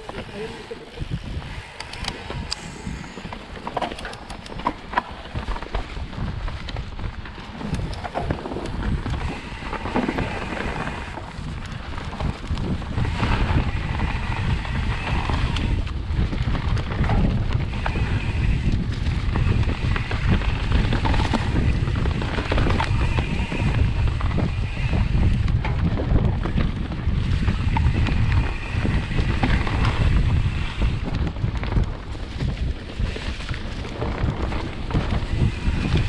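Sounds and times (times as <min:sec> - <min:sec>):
bike rattling over bumps: 0:00.0 - 0:36.0
tyres on dirt and dry leaves: 0:00.0 - 0:36.0
wind buffeting microphone: 0:00.0 - 0:36.0.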